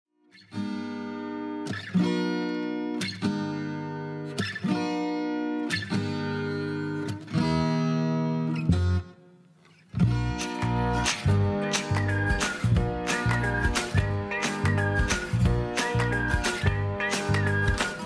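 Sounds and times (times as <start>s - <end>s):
acoustic guitar strummed chords: 0.5s - 18.0s.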